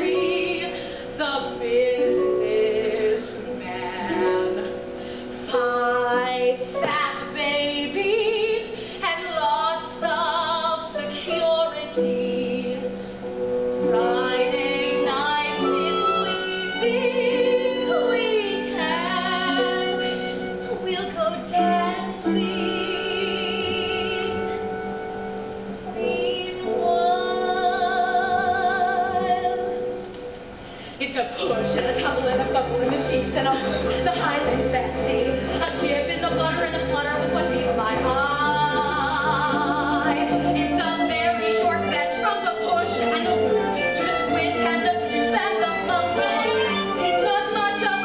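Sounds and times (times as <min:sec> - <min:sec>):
woman singing with vibrato: 0:00.0 - 0:13.0, 0:13.8 - 0:24.9, 0:25.9 - 0:30.0, 0:31.0 - 0:48.0
instrumental accompaniment: 0:00.0 - 0:48.0.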